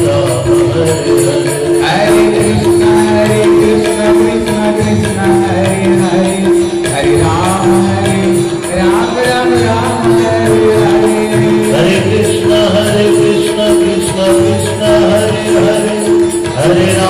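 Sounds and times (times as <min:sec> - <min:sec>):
held instrumental tones: 0:00.0 - 0:17.0
jingling hand percussion: 0:00.0 - 0:17.0.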